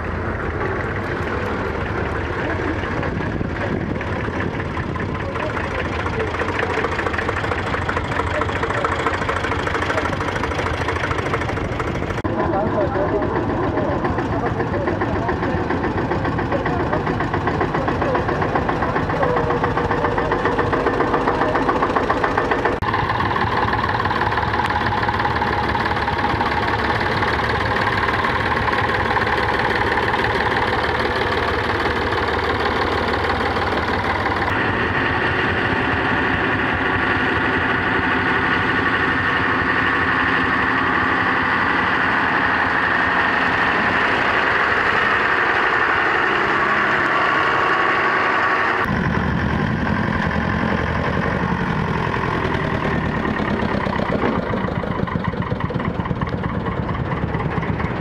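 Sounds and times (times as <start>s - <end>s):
diesel tractor engines passing: 0.0s - 58.0s.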